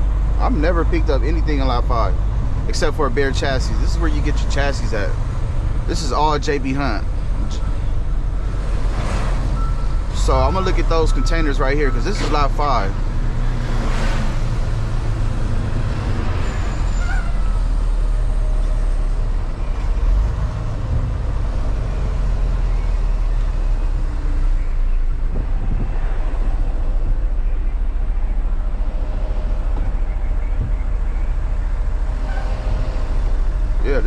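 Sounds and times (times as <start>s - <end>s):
truck diesel engine rumbling: 0.0s - 34.0s.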